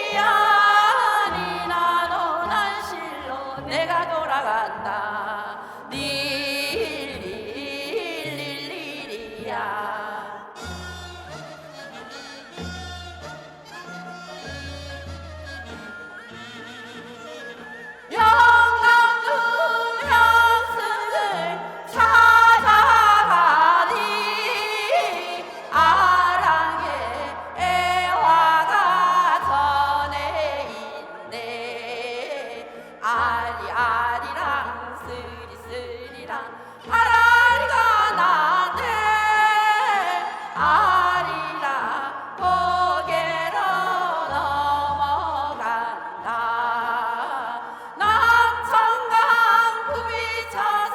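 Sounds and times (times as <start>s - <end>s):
person singing folk song: 0.0s - 14.4s, 18.1s - 50.9s.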